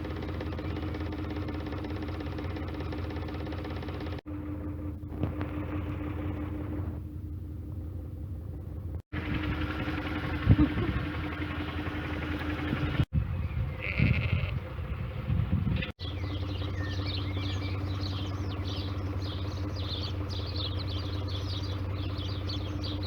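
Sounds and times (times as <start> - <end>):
diesel engine humming: 0.0 - 23.0.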